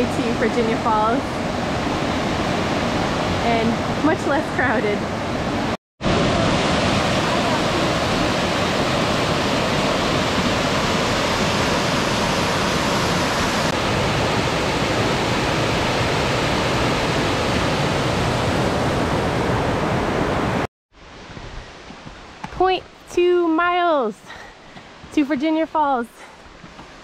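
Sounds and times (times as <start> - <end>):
small waterfall rushing: 0.1 - 22.8.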